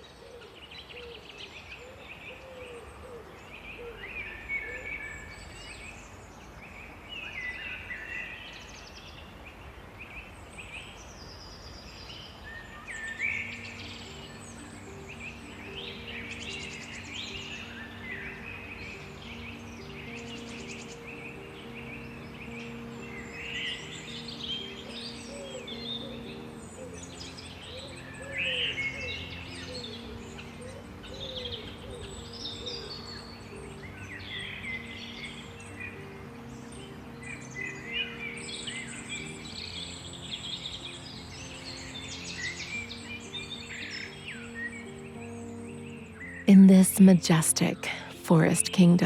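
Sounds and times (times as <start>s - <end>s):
soft ambient music: 0.0s - 49.0s
songbirds chirping and trilling: 0.0s - 49.0s.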